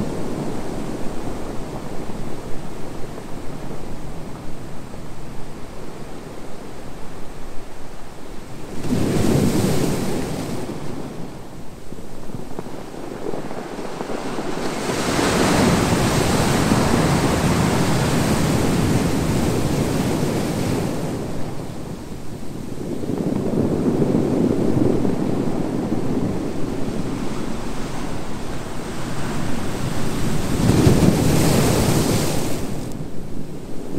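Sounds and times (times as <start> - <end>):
sea waves surging onto shore: 0.0 - 11.8, 12.7 - 33.9.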